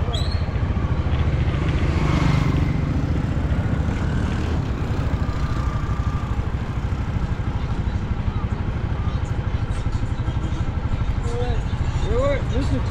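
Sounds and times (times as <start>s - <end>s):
road and wind noise: 0.0s - 12.9s
vehicle engine running: 0.0s - 12.9s.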